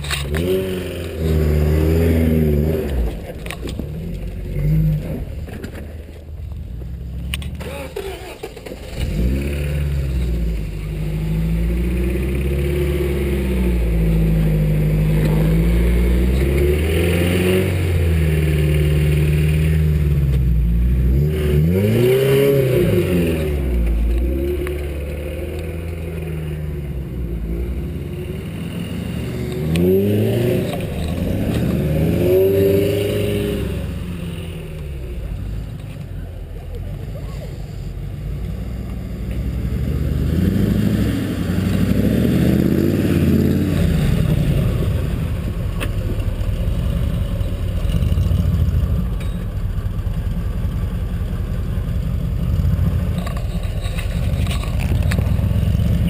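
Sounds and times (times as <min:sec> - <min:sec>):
vehicle engine revving: 0:00.0 - 0:06.0, 0:06.6 - 0:56.0.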